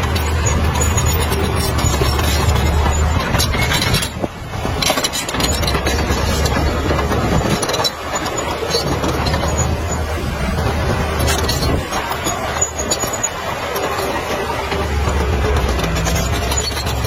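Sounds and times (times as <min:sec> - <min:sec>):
heavy diesel machinery running: 0:00.0 - 0:17.0.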